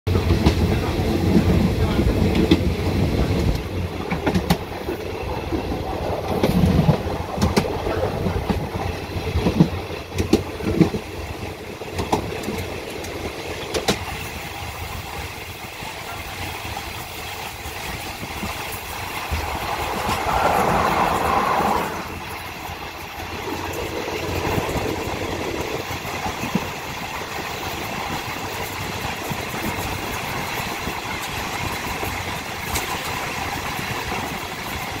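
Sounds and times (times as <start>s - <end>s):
train rumbling on track: 0.1s - 35.0s
wheels clicking over rail: 0.2s - 35.0s.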